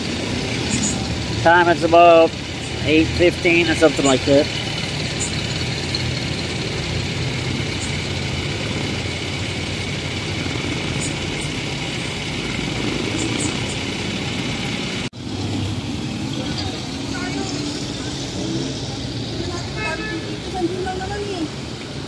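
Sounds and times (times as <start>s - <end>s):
car engines idling: 0.0s - 22.0s
tyres hissing on wet road: 0.0s - 22.0s.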